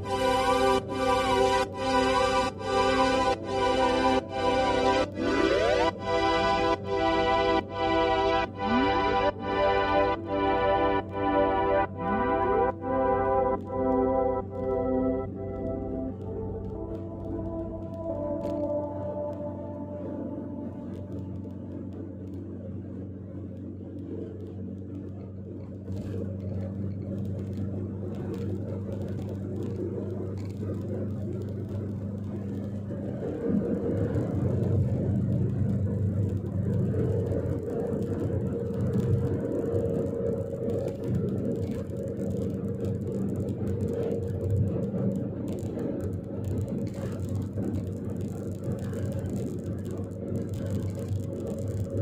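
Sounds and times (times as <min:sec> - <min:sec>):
car engine and road hum: 0:00.0 - 0:52.0.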